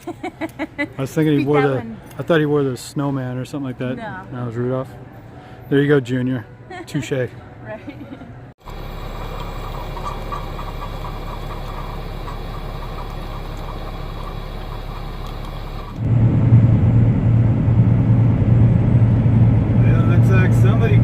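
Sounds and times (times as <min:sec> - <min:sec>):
truck engine and road noise: 0:00.4 - 0:21.0.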